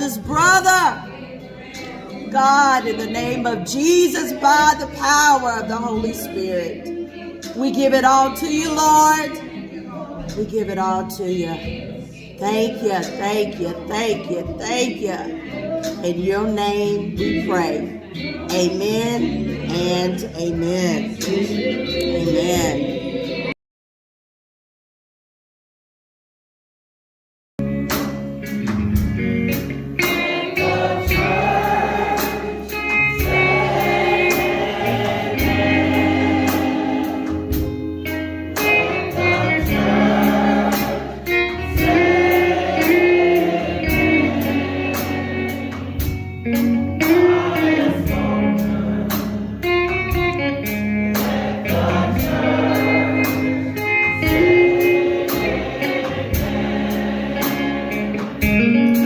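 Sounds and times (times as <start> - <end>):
instrumental accompaniment with bass: 0.0 - 23.5, 27.6 - 59.0
choir singing gospel music: 0.0 - 23.6, 27.9 - 59.0.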